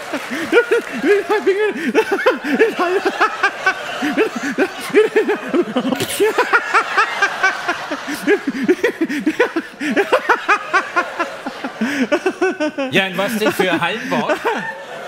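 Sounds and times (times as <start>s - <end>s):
audience laughing: 0.0s - 15.0s
man laughing hard: 0.1s - 15.0s.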